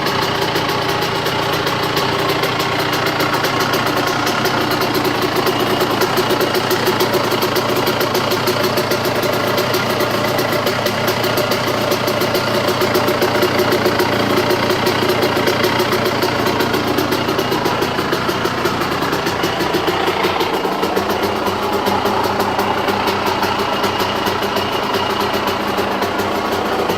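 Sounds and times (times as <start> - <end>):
motorcycle engine idling: 0.0 - 26.9
rapid knocking noise: 0.0 - 26.9.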